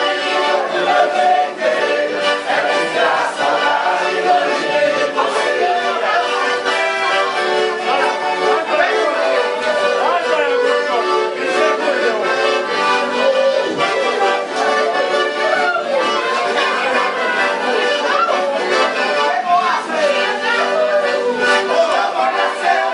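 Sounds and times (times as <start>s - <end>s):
accordion playing a tune: 0.0s - 22.9s.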